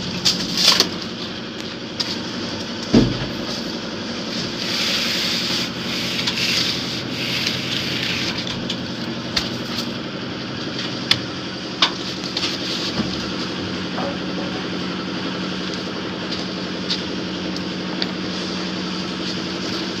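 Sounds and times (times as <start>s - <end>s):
motor engine idling: 0.0s - 20.0s.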